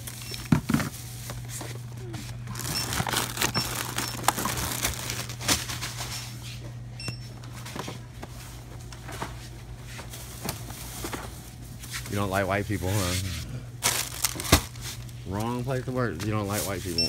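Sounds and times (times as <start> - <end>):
shopping bags rustling and crinkling: 0.0 - 6.6, 7.3 - 17.0
low electrical hum: 0.0 - 17.0.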